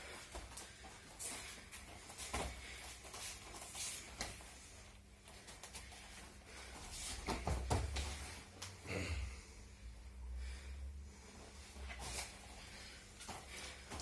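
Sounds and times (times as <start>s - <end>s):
rustling movement on mats: 0.0s - 8.8s, 11.1s - 14.0s.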